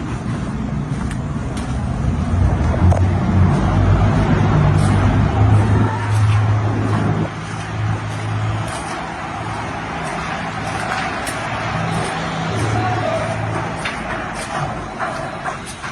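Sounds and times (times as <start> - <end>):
low engine hum: 0.0 - 15.6
road traffic noise: 0.0 - 15.9.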